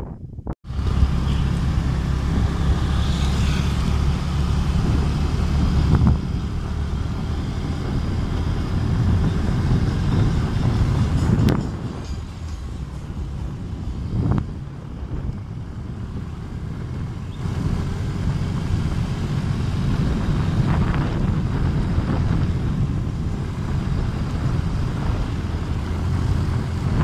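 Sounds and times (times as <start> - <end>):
vehicle drone: 0.0 - 27.0
wind rumbling on microphone: 0.0 - 27.0.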